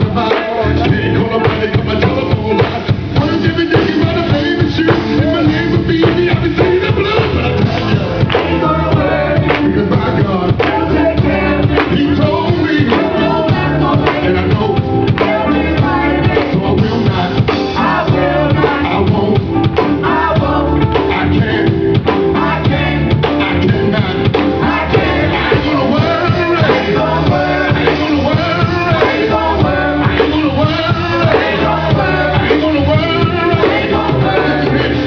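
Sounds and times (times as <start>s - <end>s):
band playing: 0.0s - 35.0s
steady drum beat: 0.0s - 35.0s
voices singing gospel: 0.0s - 35.0s.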